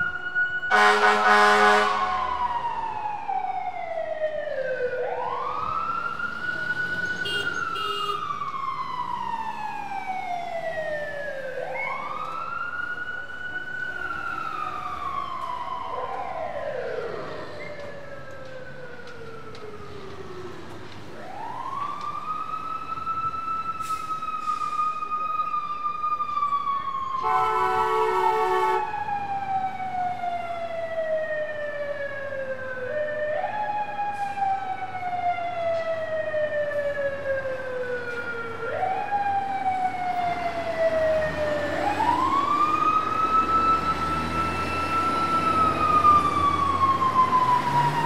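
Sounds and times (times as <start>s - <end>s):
fire truck wail siren: 0.0s - 48.0s
second siren: 0.0s - 48.0s.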